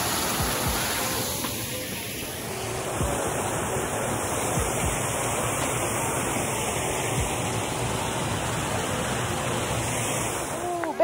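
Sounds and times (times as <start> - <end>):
water rushing from outlet: 0.0 - 11.0.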